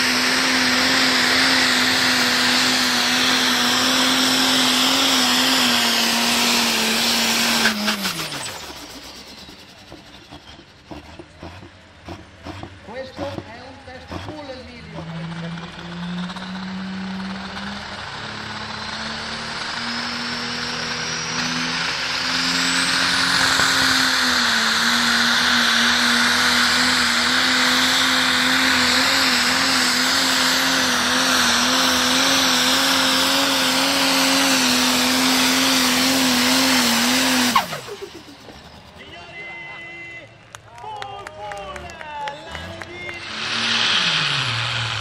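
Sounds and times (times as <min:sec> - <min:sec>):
turbo whine: 0:00.0 - 0:40.3, 0:42.4 - 0:45.0
tractor diesel engine at full power: 0:00.0 - 0:40.7, 0:41.3 - 0:45.0.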